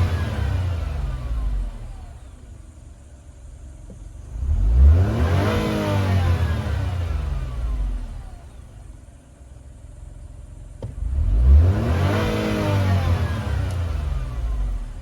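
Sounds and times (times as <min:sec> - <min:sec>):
car engine revving: 0:00.0 - 0:02.8, 0:03.9 - 0:09.0, 0:10.6 - 0:15.0.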